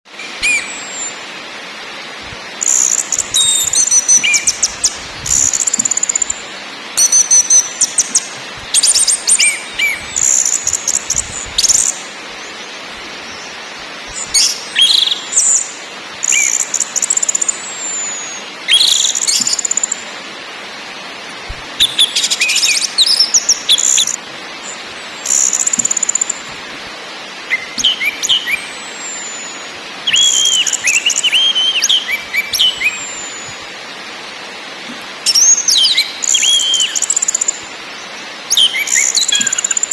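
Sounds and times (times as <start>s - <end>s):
thrush singing trills and whistles: 0.1s - 1.5s, 2.2s - 20.1s, 21.7s - 26.6s, 27.4s - 34.1s, 35.1s - 39.9s
steady background hiss: 0.1s - 39.9s.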